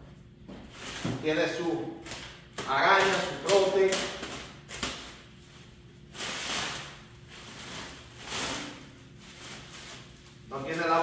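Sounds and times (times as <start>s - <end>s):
rustling handling noises: 2.0s - 11.0s.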